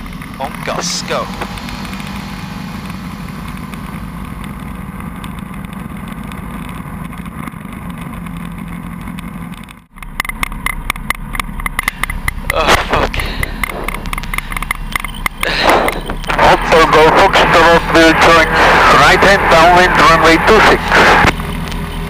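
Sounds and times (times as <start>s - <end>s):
aircraft engine drone: 0.0s - 22.0s
choppy engine with knocks: 0.0s - 22.0s.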